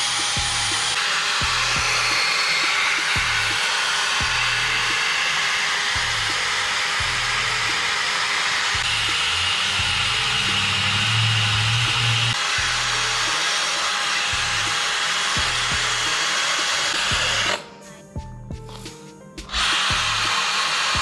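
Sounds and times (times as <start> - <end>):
abrasive disc scrubbing metal: 0.0 - 17.6.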